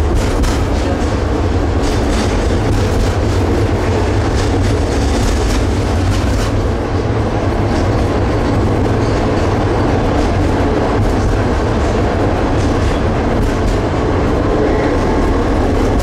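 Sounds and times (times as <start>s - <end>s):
tram rumbling on track: 0.0s - 16.0s
wheels clicking over rail joints: 0.0s - 16.0s.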